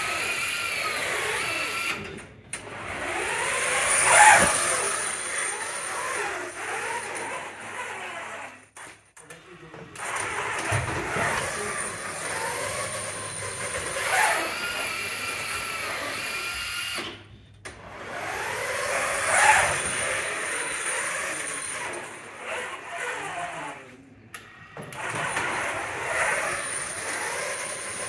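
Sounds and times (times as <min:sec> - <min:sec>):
robot electric motors whining: 0:00.0 - 0:09.0, 0:10.0 - 0:28.0.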